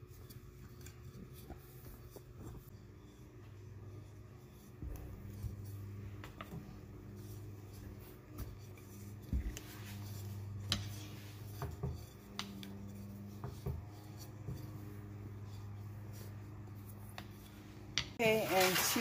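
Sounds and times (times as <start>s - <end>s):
steady low hum: 0.0s - 18.2s
dough rolling and scraping: 0.0s - 19.0s.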